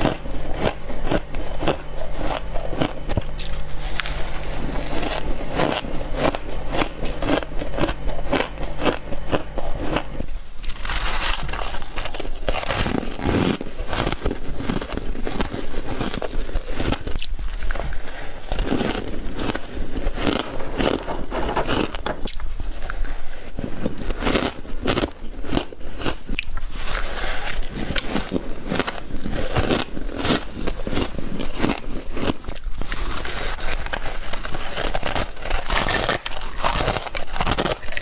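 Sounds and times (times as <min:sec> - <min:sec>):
crunching frost: 0:00.0 - 0:38.0
low steady hum: 0:00.0 - 0:38.0.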